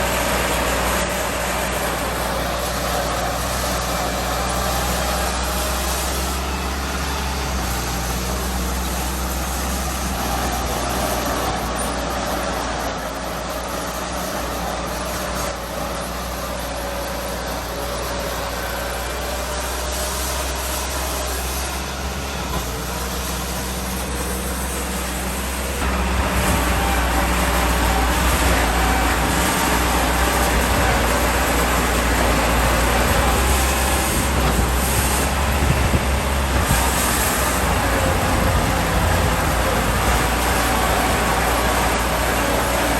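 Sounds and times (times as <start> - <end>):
heavy diesel machinery rumbling: 0.0 - 42.9.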